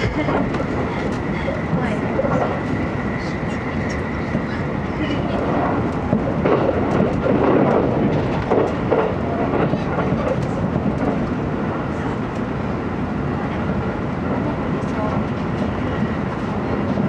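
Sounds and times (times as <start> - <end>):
train wheels rumbling and clicking: 0.0 - 17.0.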